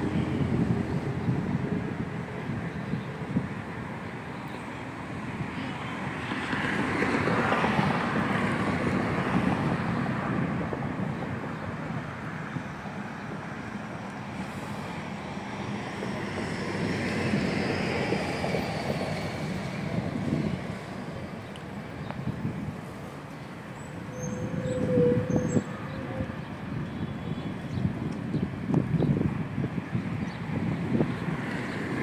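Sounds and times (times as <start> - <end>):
urban traffic noise: 0.0 - 32.0.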